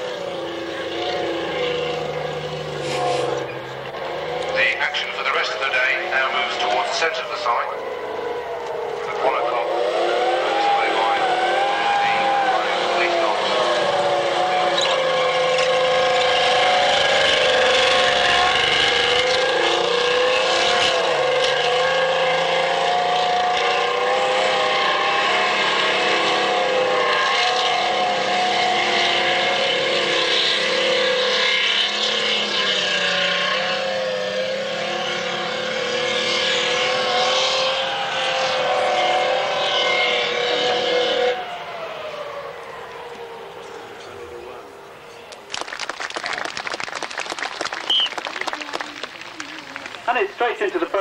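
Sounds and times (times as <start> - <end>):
tank engine running hard: 0.0 - 51.0.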